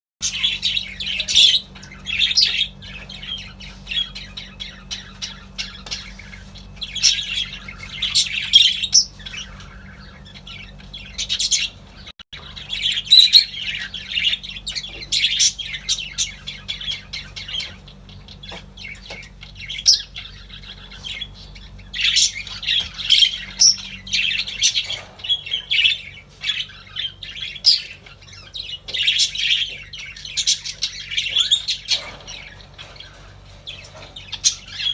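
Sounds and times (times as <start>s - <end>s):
budgerigars chirping: 0.2s - 34.9s.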